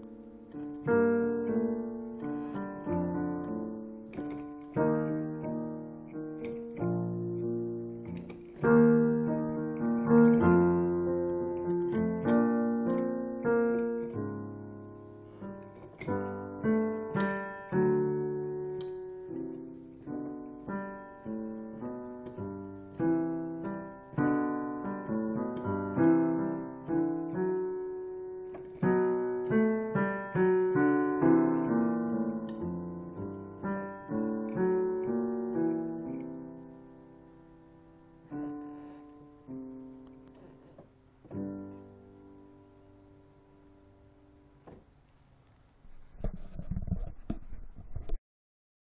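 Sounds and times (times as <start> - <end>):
piano playing slow chords: 0.0 - 44.9.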